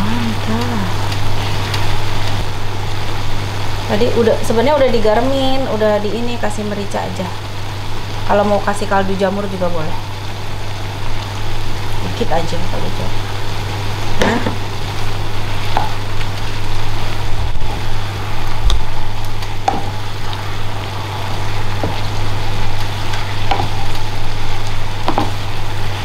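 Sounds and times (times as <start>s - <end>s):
food sizzling in a pan: 0.0s - 26.0s
steady low hum: 0.0s - 26.0s.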